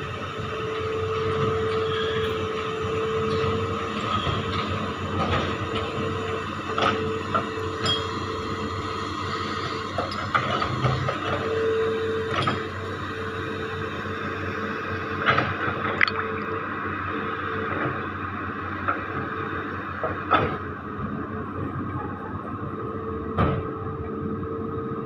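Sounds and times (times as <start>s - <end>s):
hydraulic whine: 0.0s - 25.0s.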